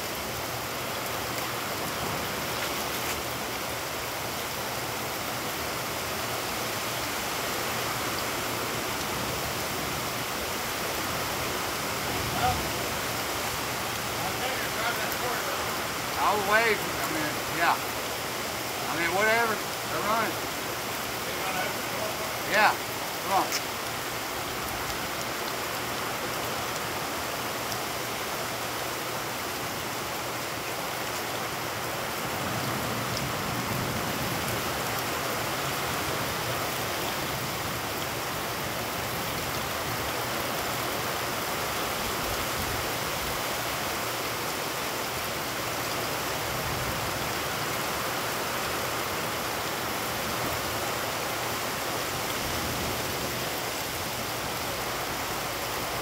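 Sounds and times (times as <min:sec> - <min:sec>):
heavy rain on puddled ground: 0:00.0 - 0:56.0.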